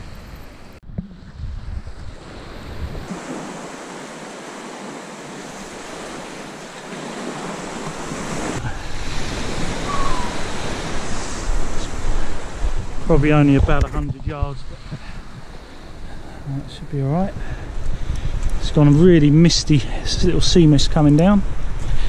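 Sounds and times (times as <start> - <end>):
wind buffeting microphone: 0.0 - 22.0
waves washing onto beach: 1.8 - 20.1.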